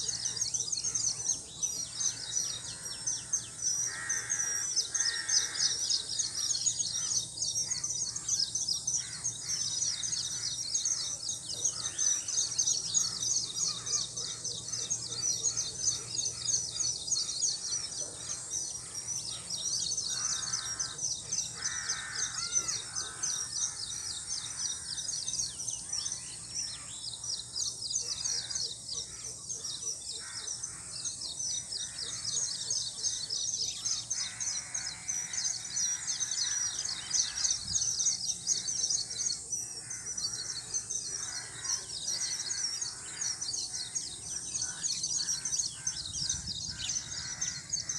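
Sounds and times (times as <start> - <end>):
birds chirping: 0.0 - 47.9
lower bird calls: 0.0 - 47.9.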